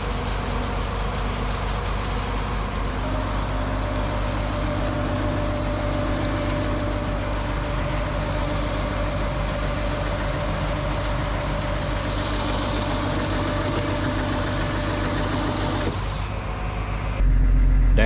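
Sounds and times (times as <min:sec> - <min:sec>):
thin steady whine: 0:00.0 - 0:18.0
tractor diesel engine idling: 0:00.0 - 0:18.0.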